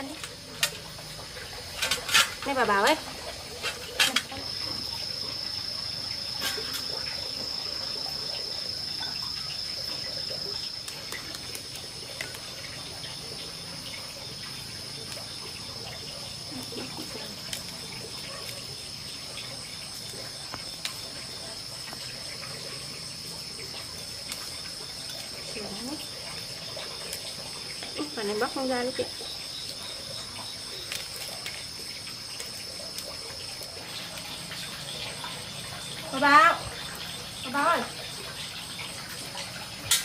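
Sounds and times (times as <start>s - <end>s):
high-pitched insect trill: 0.0s - 40.0s
higher insect trill: 0.0s - 40.0s.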